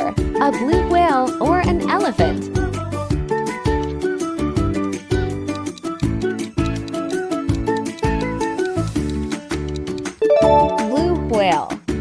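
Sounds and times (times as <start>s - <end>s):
upbeat music with plucked notes: 0.0s - 12.0s.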